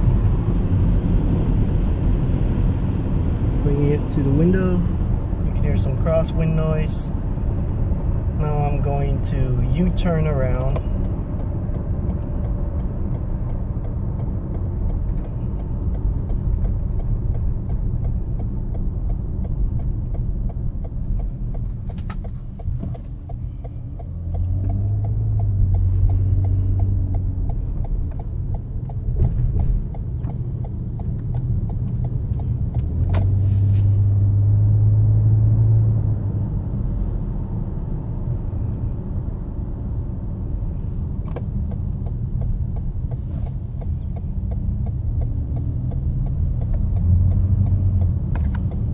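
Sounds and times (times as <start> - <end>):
road and engine rumble: 0.0 - 48.9.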